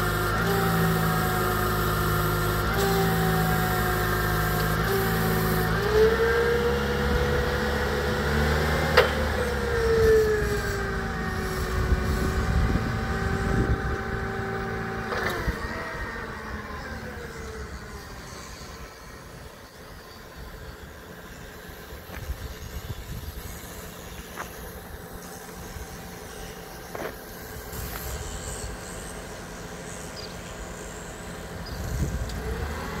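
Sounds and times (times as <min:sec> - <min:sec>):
forklift engine running: 0:00.0 - 0:33.0.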